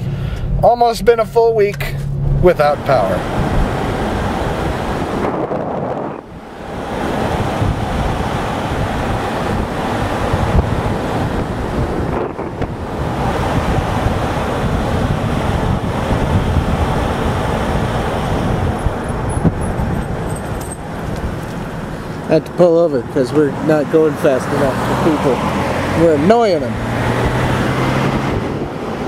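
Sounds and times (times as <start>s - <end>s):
air buffeting microphone: 0.0s - 29.0s
car road and wind noise: 0.0s - 29.0s.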